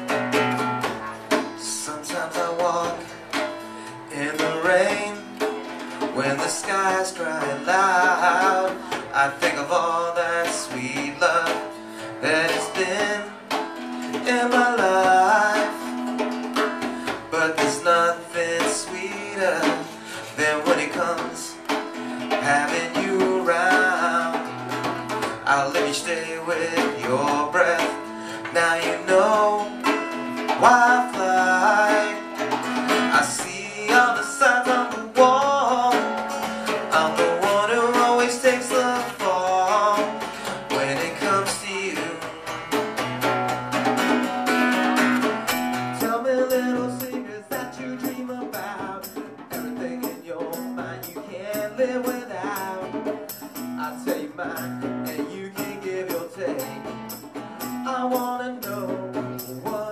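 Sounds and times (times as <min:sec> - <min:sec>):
man singing: 0:00.0 - 0:43.0, 0:45.7 - 0:59.9
strummed acoustic guitar: 0:00.0 - 0:59.9
drum kit and cymbal: 0:10.6 - 0:59.9.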